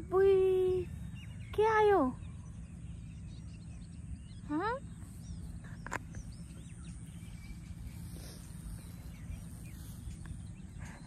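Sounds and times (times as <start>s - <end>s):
faint bird chirps: 0.0s - 11.0s
wind buffeting microphone: 0.0s - 11.0s.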